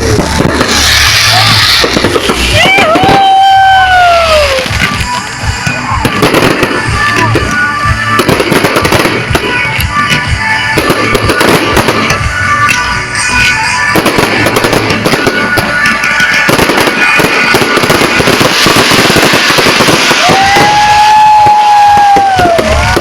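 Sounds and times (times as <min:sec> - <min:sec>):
loud crackling and popping: 0:00.0 - 0:23.0
pop music: 0:00.0 - 0:23.0.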